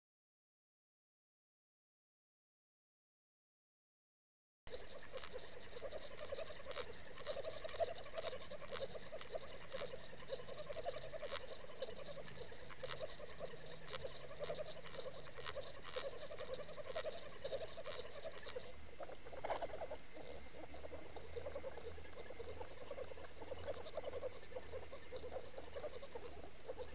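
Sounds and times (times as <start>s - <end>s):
faint high whine: 4.7s - 26.9s
rapidly warbling underwater hum: 4.7s - 26.9s.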